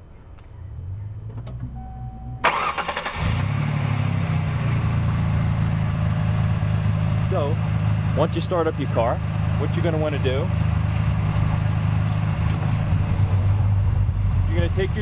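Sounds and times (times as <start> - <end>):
car engine idling: 0.0 - 15.0
car engine starting: 0.0 - 15.0.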